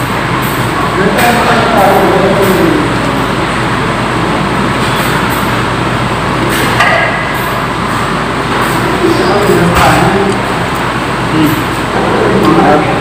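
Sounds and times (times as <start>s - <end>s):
air conditioning hum: 0.0s - 13.0s.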